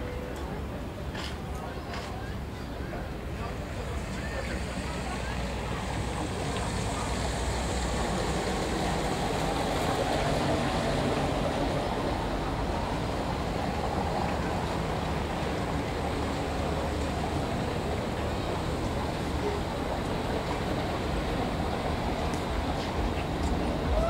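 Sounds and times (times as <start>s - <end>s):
water: 0.0s - 24.0s
wind: 0.0s - 24.0s
low engine rumble: 1.6s - 24.0s.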